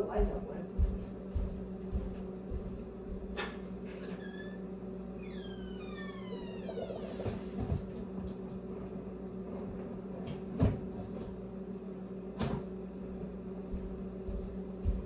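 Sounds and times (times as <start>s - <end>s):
low appliance hum: 0.0s - 15.0s.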